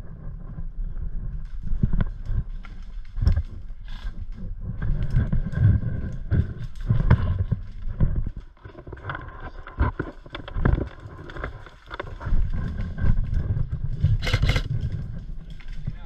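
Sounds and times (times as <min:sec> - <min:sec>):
rumbling movement: 0:00.0 - 0:16.0
wind noise on microphone: 0:00.0 - 0:16.0.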